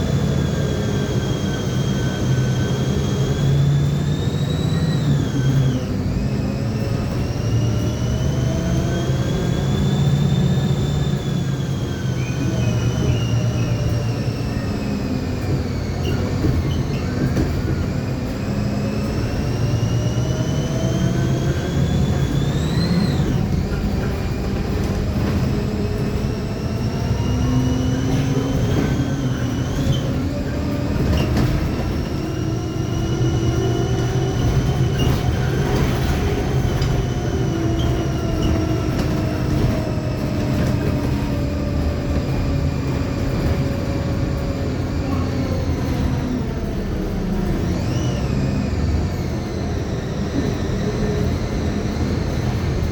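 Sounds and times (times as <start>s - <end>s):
diesel engine running: 0.0s - 52.9s
differential whining: 0.0s - 52.9s
road noise: 0.0s - 52.9s.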